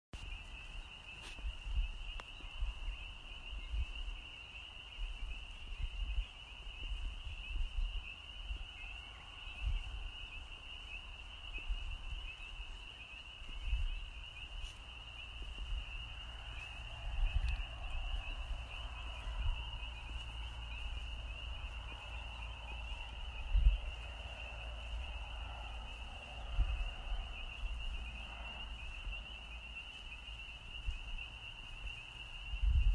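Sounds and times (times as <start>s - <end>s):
chorus of frogs peeping: 0.2s - 32.9s
low rumbles: 0.2s - 32.9s.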